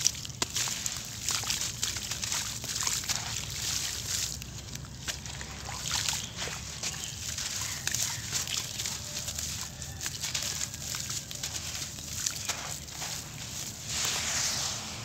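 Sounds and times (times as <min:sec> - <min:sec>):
crumbs splashing in water: 0:00.0 - 0:14.8
sand-cement lumps crumbling by hand: 0:00.0 - 0:15.0.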